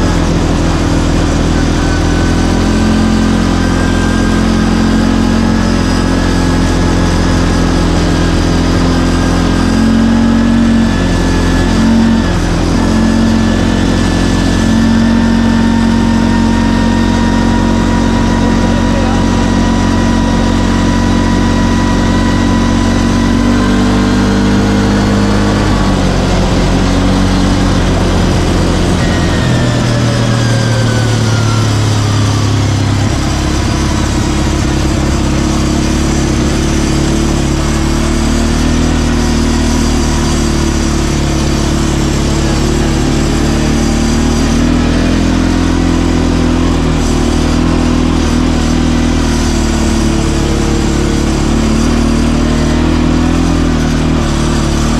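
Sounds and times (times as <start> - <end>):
atv engine revving: 0.0 - 54.9
steady rushing noise: 0.0 - 54.9.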